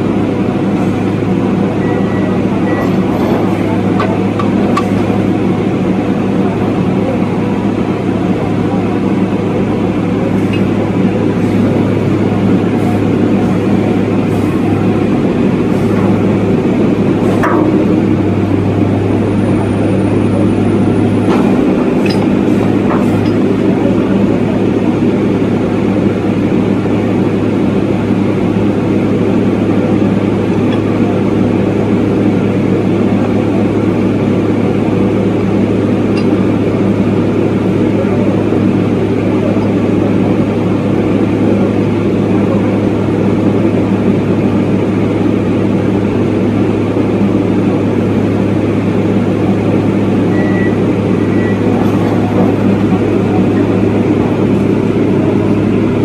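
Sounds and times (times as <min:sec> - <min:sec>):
piling rig engine droning: 0:00.0 - 0:56.0.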